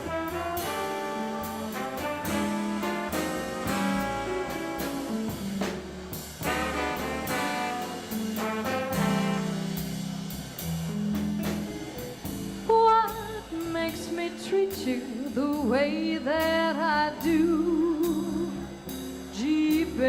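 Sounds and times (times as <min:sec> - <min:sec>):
swing band playing: 0:00.0 - 0:20.0.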